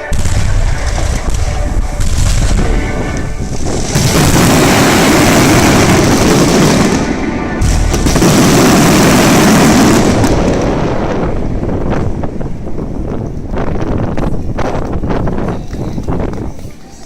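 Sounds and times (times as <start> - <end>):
fireworks crackling rumble: 0.0 - 17.0.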